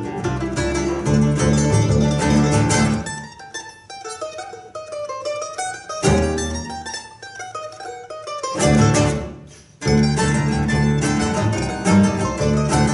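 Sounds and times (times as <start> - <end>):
classical guitar: 0.0 - 12.9
double bass: 0.0 - 12.9
mandolin: 0.0 - 12.9.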